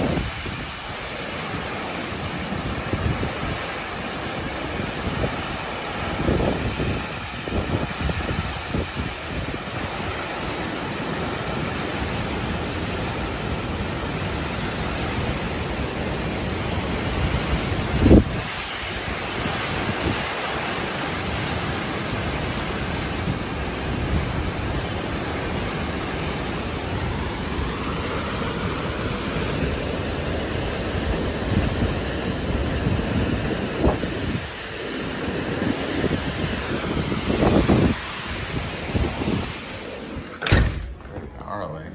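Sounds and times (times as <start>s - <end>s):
wind buffeting microphone: 0.0s - 10.6s, 16.1s - 20.8s, 22.5s - 41.4s
heavy rain: 0.0s - 41.9s.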